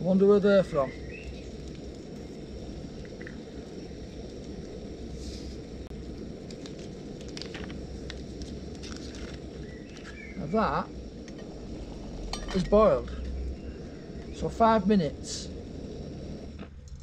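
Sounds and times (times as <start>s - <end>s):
gas burner low roar: 0.0s - 17.0s.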